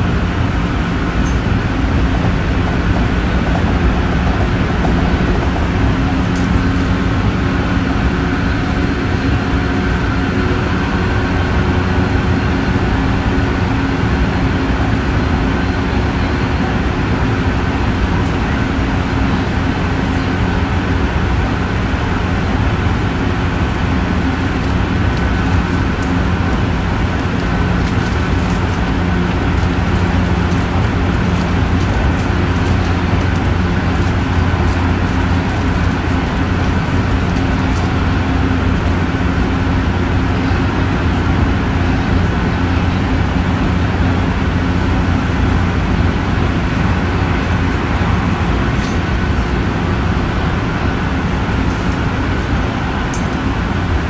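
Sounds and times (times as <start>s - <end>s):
train motor hum: 0.0s - 54.0s
train wheels rumbling on rail: 0.0s - 54.0s.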